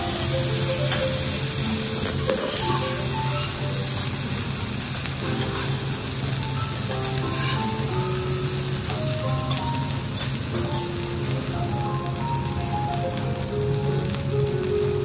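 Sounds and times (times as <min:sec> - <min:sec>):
steaks sizzling on a griddle: 0:00.0 - 0:15.0.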